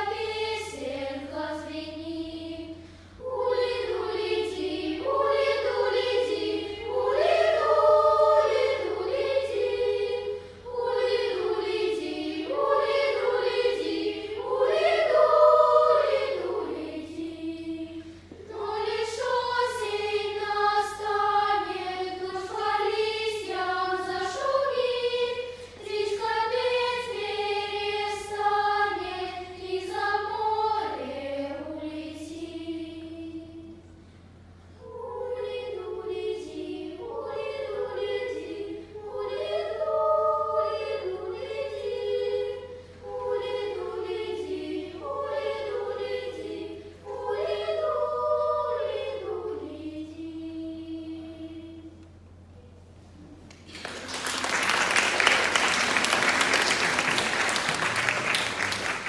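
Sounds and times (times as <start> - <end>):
children's choir singing: 0.0 - 34.0, 34.7 - 59.0.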